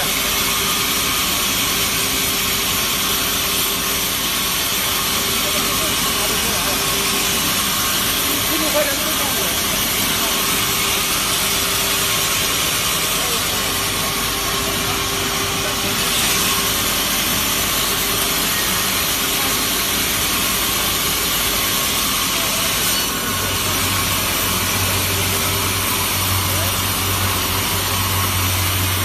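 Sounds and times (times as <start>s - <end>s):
sawmill saw cutting log: 0.0s - 29.0s.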